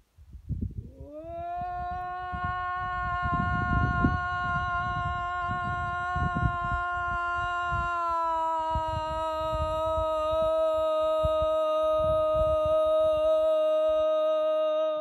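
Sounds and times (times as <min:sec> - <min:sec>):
wind buffeting microphone: 0:00.2 - 0:13.5
woman holding long sung note: 0:00.8 - 0:15.0.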